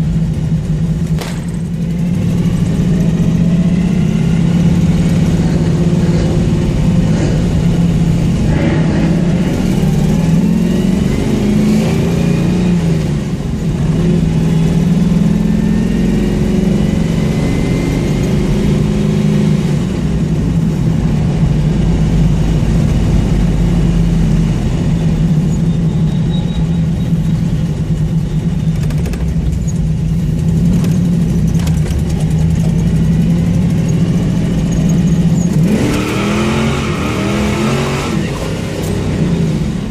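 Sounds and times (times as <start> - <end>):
car engine with exhaust leak: 0.0 - 39.9.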